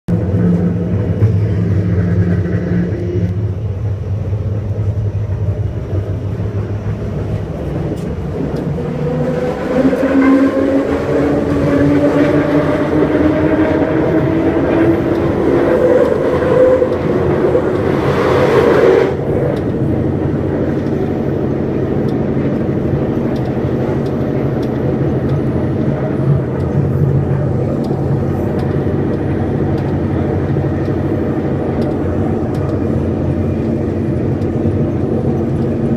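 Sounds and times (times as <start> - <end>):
train running on track: 0.1 - 35.9.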